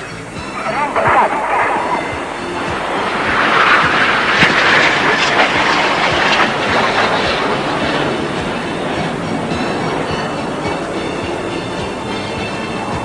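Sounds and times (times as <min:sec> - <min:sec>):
jets flying past roaring: 0:00.0 - 0:13.0.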